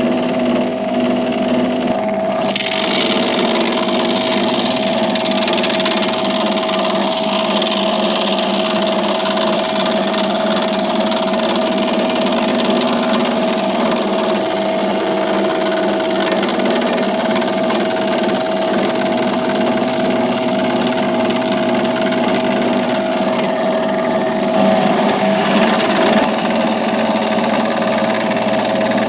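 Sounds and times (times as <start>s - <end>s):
electric saw cutting wood: 0.0s - 29.0s.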